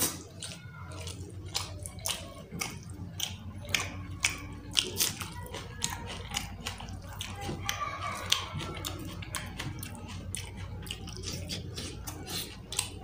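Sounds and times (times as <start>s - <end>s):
wet chewing and lip smacking: 0.0s - 13.0s.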